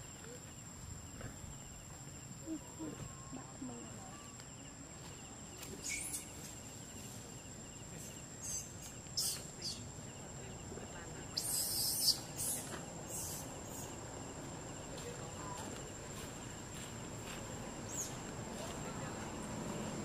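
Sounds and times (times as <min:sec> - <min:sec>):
insect drone: 0:00.0 - 0:20.0.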